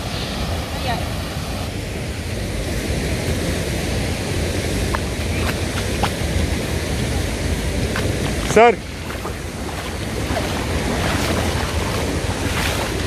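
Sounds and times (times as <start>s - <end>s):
distant waterfall: 0.0s - 13.0s
flowing river water: 0.0s - 13.0s
wind rumbling on microphone: 0.0s - 13.0s.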